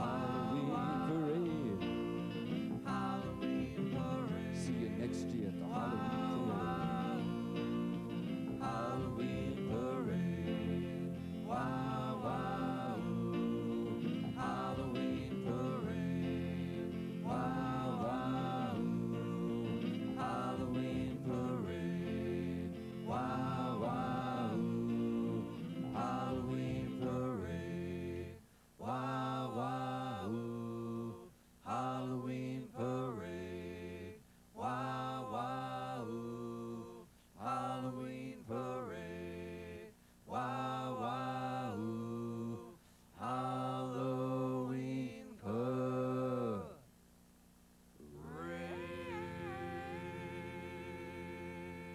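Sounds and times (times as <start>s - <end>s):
wordless singing: 0.0s - 46.9s, 48.0s - 51.9s.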